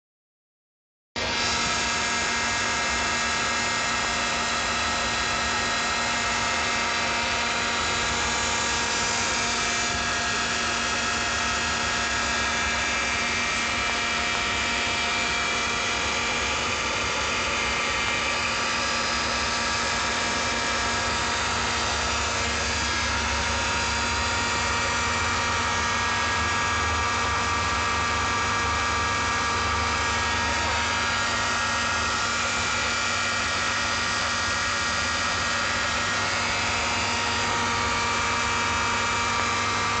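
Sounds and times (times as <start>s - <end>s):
pool pump motor humming: 1.2s - 40.0s.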